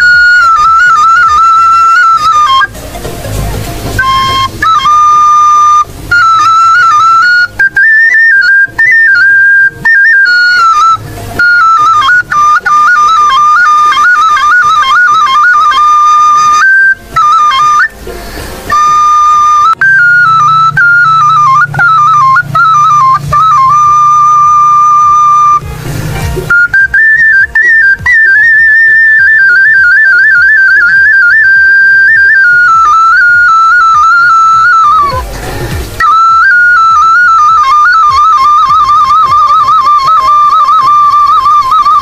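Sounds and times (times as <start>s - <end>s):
noise hiss: 0.0s - 42.0s
solo flute melody: 0.0s - 42.0s.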